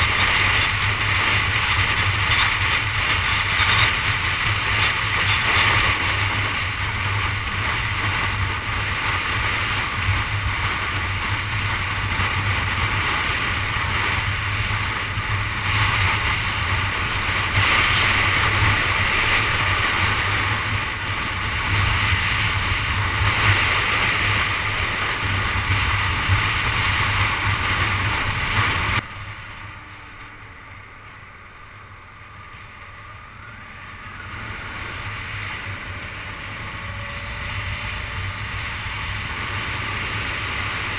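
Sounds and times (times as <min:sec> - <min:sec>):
car road and wind noise: 0:00.0 - 0:40.9.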